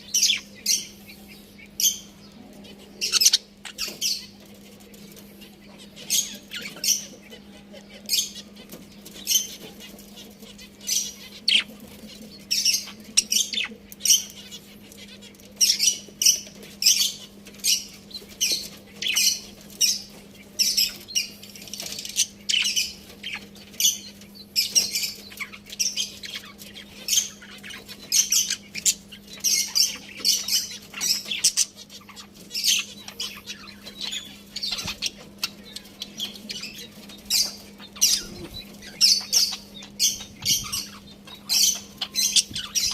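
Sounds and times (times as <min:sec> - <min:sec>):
budgerigars chirping: 0:00.0 - 0:42.9.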